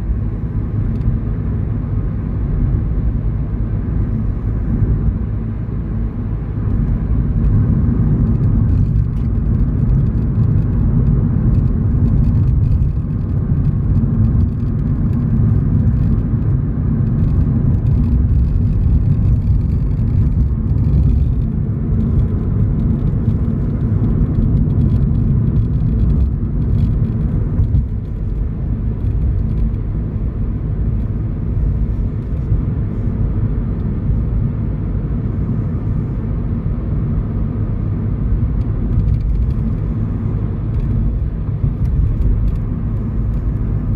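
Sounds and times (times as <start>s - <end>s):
engine and road rumble: 0.0s - 43.9s.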